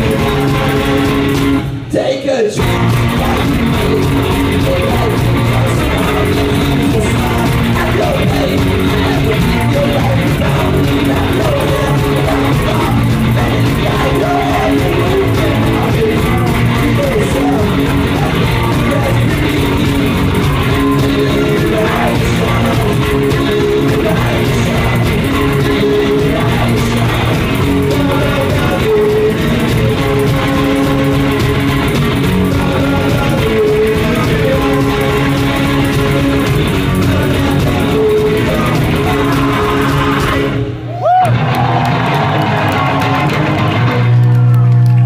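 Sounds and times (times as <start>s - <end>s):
low bass notes: 0.0s - 1.9s, 2.6s - 45.0s
live rock music with guitars: 0.0s - 45.0s.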